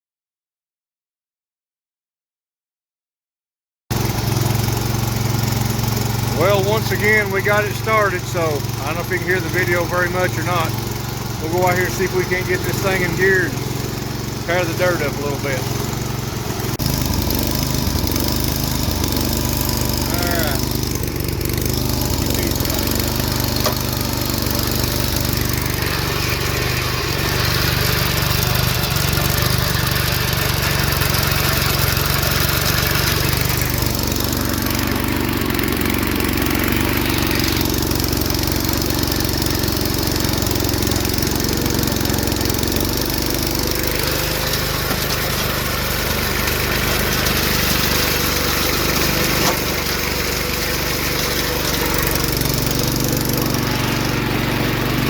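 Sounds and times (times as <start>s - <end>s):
garden tractor engine under load: 3.9s - 55.0s.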